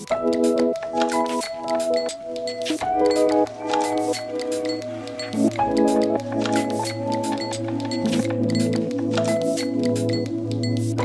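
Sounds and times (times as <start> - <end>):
music with chords and beat: 0.0 - 11.0.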